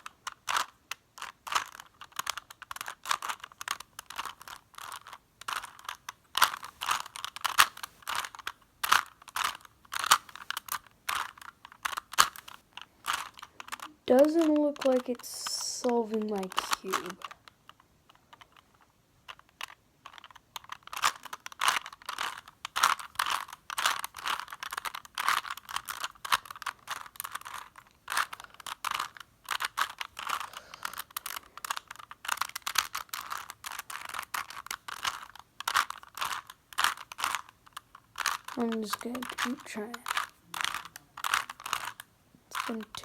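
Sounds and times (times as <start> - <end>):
puzzle cube clacking: 0.0 - 43.0.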